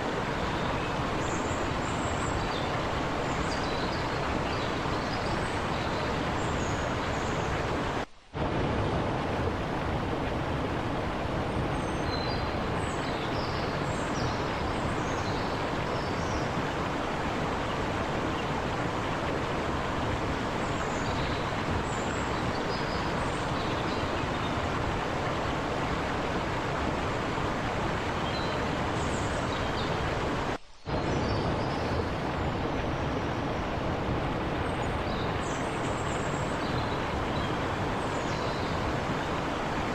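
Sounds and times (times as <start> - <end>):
river babbling over rocks: 0.0 - 30.6, 31.2 - 39.9.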